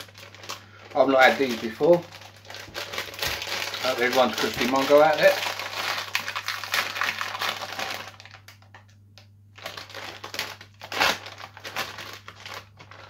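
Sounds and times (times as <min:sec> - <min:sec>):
plastic snack packet crinkling: 0:00.0 - 0:13.0.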